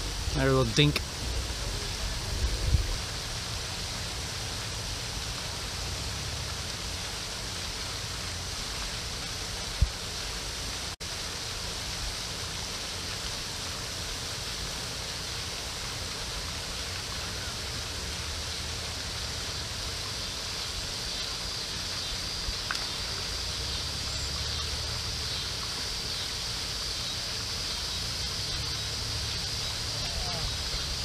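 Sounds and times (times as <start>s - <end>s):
fountain water hiss: 0.0s - 31.0s.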